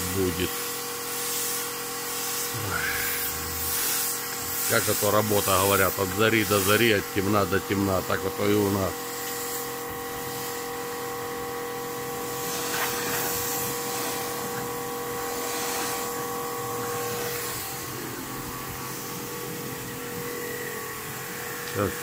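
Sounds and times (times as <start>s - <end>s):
high-pressure water jet hissing: 0.0s - 22.0s
pressure washer motor whine: 0.0s - 22.0s.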